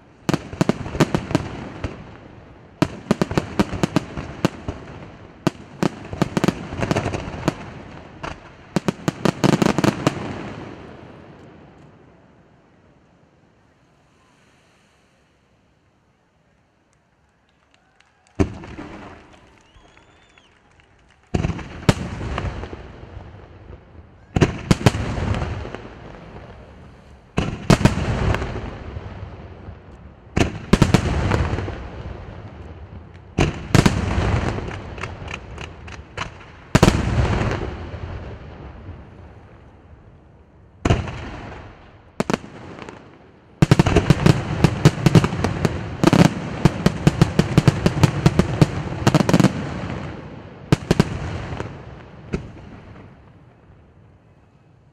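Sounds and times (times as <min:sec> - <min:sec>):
crackle of firework stars: 0:00.0 - 0:54.9.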